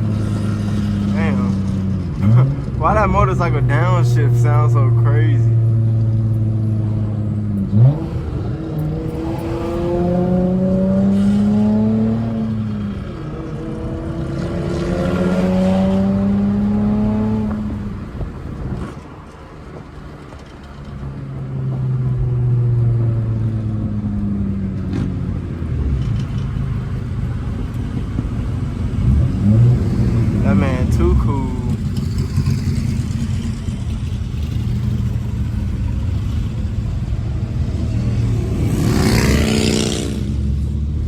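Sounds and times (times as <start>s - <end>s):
car engine revving through gears: 0.0s - 19.0s, 20.0s - 41.0s.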